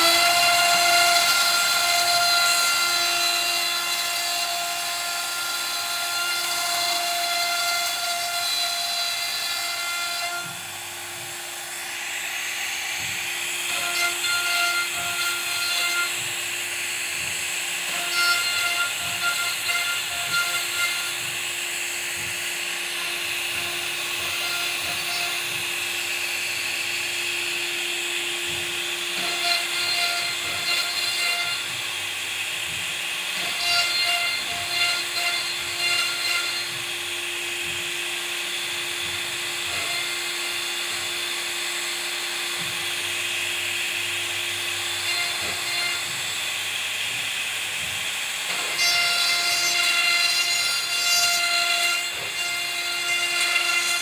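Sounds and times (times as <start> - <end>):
router spindle cutting wood: 0.0 - 54.0.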